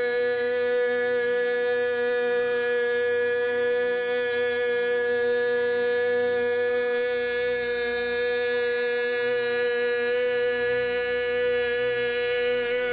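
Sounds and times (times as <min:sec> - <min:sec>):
steady held musical tone: 0:00.0 - 0:12.9.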